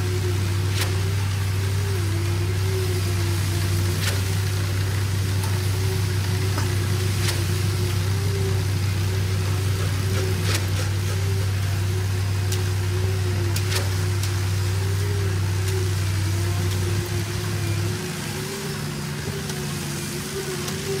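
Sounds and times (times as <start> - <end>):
faint wavering whine: 0.0 - 21.0
truck engine droning: 0.0 - 21.0.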